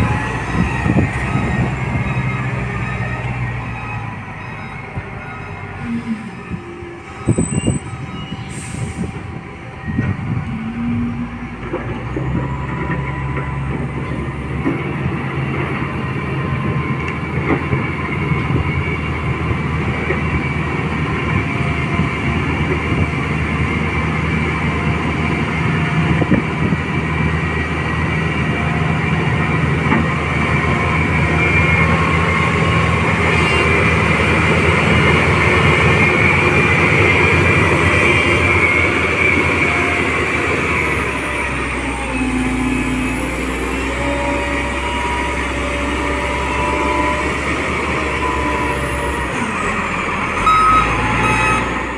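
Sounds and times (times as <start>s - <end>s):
diesel engine running under load: 0.0s - 51.9s.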